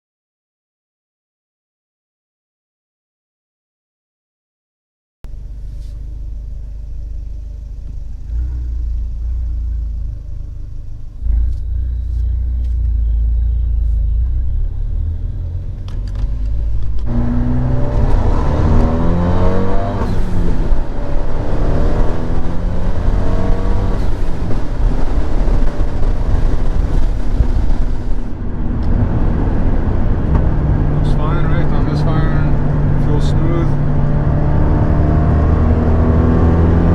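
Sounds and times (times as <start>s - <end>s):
car engine rumbling and accelerating: 5.3s - 36.9s.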